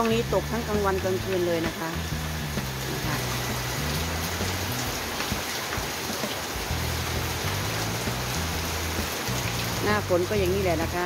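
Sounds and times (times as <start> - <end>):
heavy rain on concrete: 0.0 - 11.0
water streaming off roof: 0.0 - 11.0.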